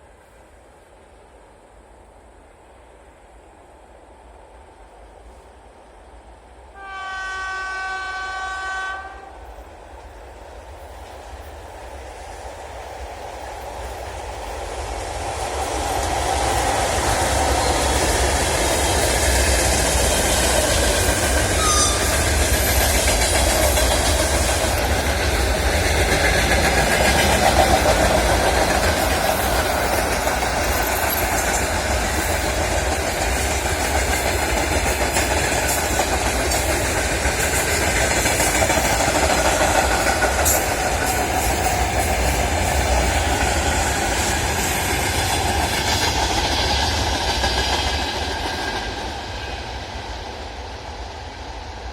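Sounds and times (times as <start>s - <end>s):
freight train wheels on rails: 0.0s - 51.9s.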